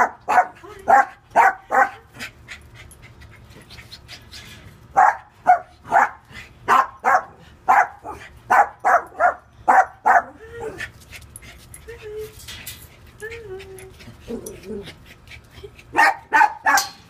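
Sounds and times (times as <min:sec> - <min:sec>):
small dogs barking excitedly: 0:00.0 - 0:11.7, 0:14.0 - 0:17.0.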